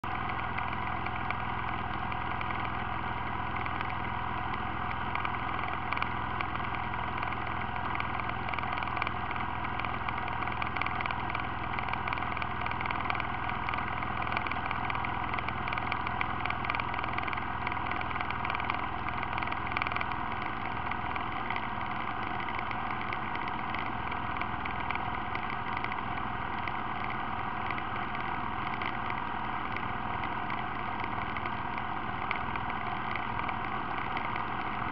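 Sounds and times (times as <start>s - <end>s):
atv engine idling: 0.1s - 34.9s.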